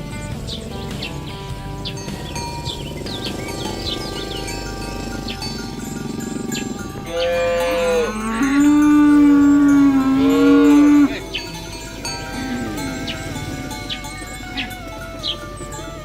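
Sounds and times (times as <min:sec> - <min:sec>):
cow mooing: 0:00.0 - 0:16.0.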